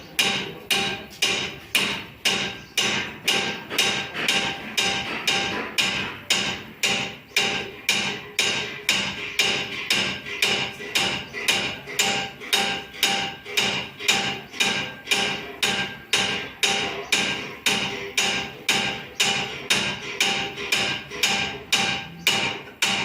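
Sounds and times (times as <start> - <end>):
hammer striking copper sheet: 0.0 - 23.0.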